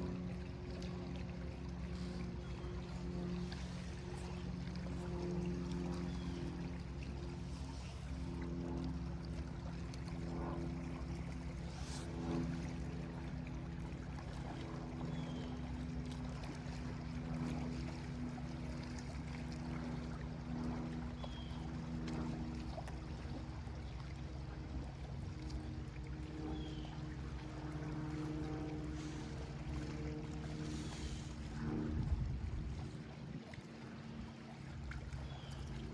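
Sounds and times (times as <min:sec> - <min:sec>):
lake waves lapping on shore: 0:00.0 - 0:35.9
low steady hum: 0:00.0 - 0:35.9.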